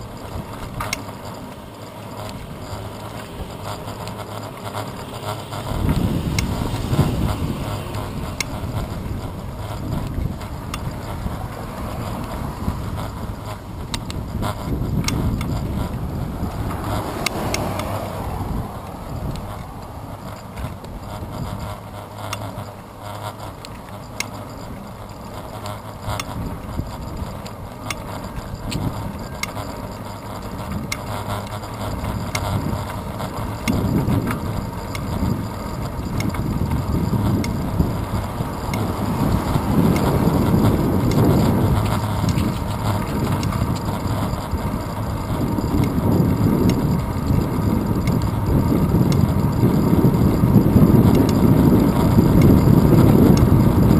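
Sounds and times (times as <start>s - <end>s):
bicycle tyres on road: 0.0s - 53.9s
bike clicks and rattles: 0.0s - 53.9s
wind noise on microphone: 0.0s - 53.9s.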